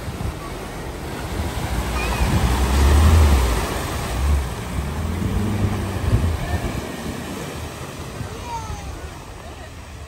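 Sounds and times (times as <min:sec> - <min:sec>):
low engine rumble: 0:00.0 - 0:10.0
van splashing through floodwater: 0:00.0 - 0:10.0.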